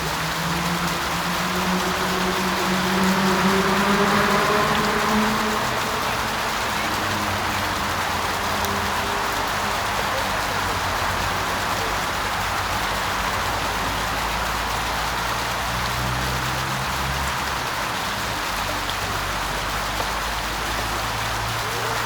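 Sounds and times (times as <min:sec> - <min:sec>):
waterfall splashing into pond: 0:00.0 - 0:22.0.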